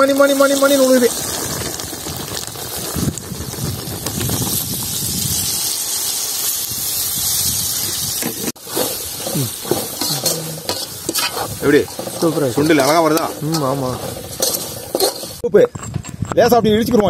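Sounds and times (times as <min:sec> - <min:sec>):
curry sizzling in a pan: 0:00.0 - 0:15.4.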